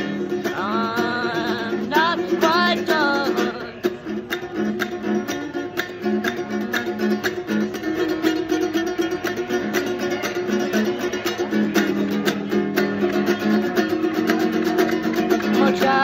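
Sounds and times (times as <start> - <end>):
acoustic guitar picked and strummed: 0.0 - 16.0.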